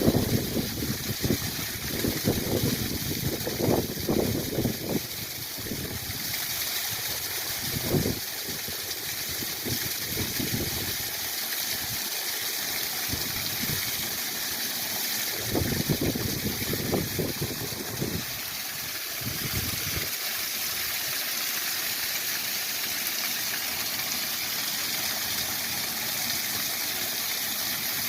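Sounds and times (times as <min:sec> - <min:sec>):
small waterfall rushing: 0:00.0 - 0:28.0
water gurgling and splashing: 0:00.0 - 0:28.0.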